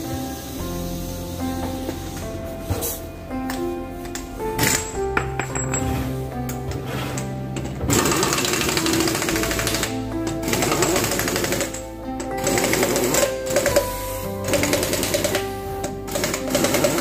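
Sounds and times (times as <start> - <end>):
melody of held notes: 0.0 - 17.0.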